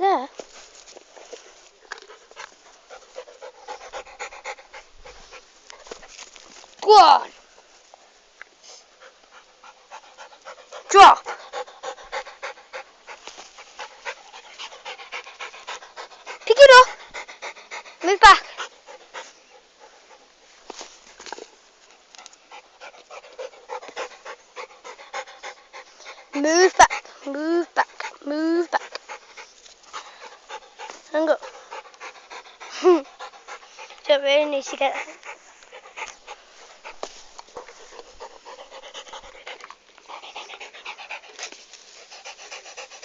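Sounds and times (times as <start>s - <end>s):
dog panting: 1.3s - 6.3s, 8.8s - 20.4s, 22.0s - 43.0s.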